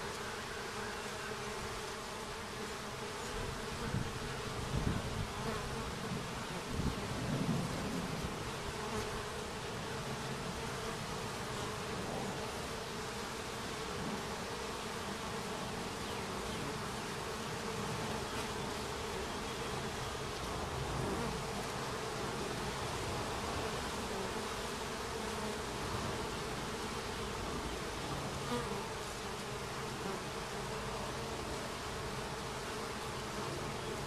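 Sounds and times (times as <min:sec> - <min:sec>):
honeybees buzzing: 0:00.0 - 0:34.0.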